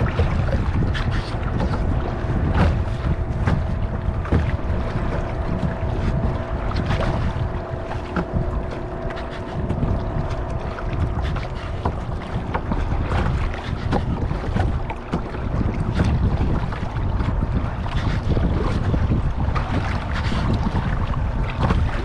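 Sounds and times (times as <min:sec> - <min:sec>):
water slapping against kayak: 0:00.0 - 0:22.0
wind buffeting microphone: 0:00.0 - 0:22.0.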